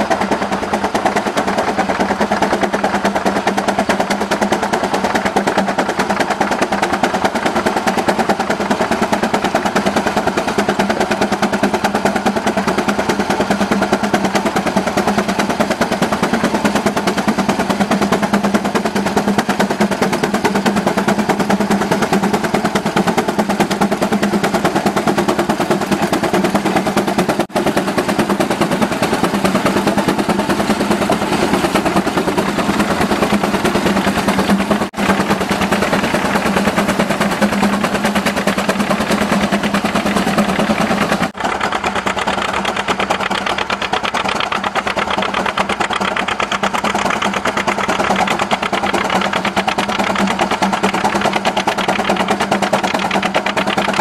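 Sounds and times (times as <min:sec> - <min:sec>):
engine running clatter: 0:00.0 - 0:54.0
steam engine exhaust chuffing: 0:00.0 - 0:54.0.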